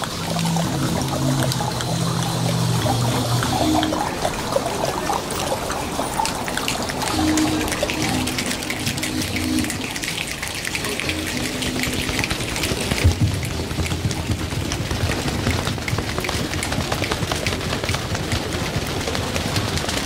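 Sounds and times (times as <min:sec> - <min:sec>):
low steady hum: 0:00.0 - 0:17.8
crowd making rain with hands: 0:00.0 - 0:20.0.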